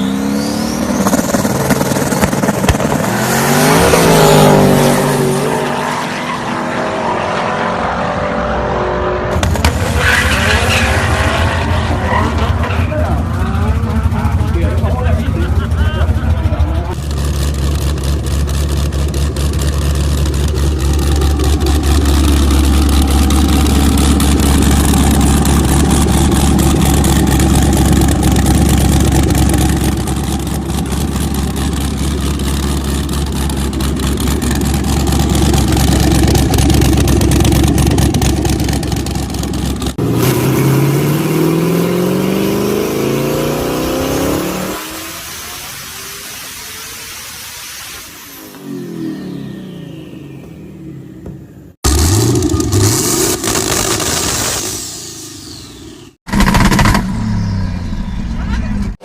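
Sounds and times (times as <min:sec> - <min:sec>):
turbocharged car engine revving: 0:00.0 - 0:59.0.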